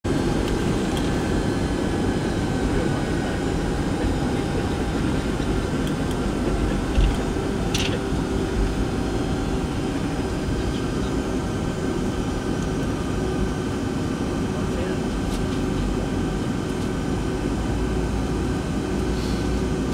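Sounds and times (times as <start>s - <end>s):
aircraft cabin rumble: 0.0s - 19.9s.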